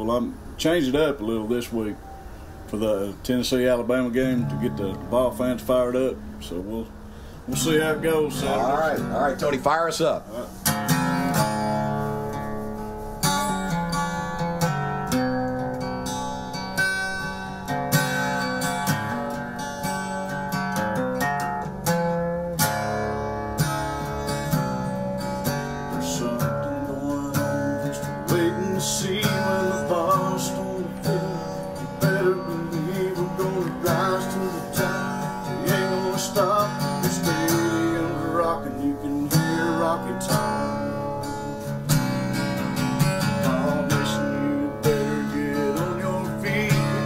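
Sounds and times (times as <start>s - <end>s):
acoustic guitar strummed: 0.0s - 47.0s.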